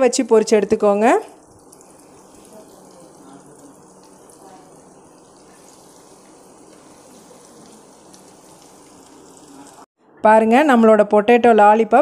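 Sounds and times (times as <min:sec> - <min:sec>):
food deep-frying in sizzling oil: 0:00.0 - 0:09.9.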